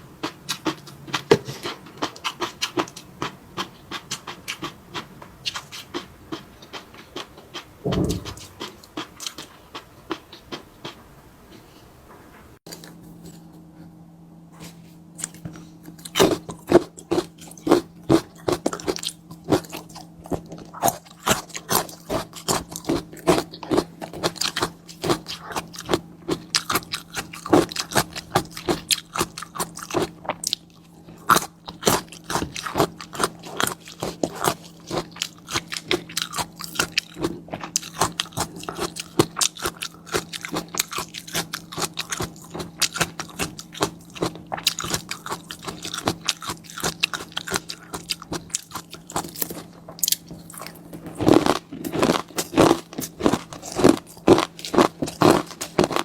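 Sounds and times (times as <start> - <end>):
chewing food: 0.0 - 11.0, 15.2 - 56.0.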